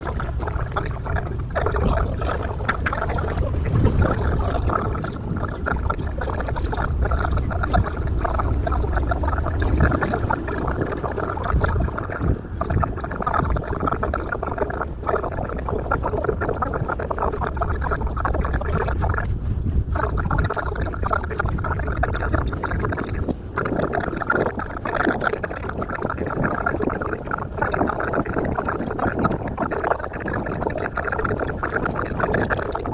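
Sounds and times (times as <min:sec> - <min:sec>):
fast chatter: 0:00.0 - 0:32.9
sped-up boat engine rumble: 0:00.0 - 0:32.9.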